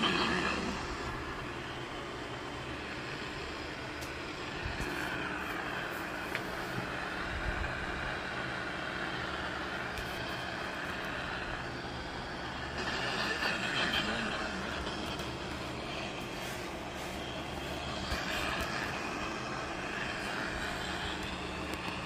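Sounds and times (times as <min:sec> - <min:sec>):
low steady hum: 0:00.0 - 0:22.0
radio static hiss: 0:00.0 - 0:22.0.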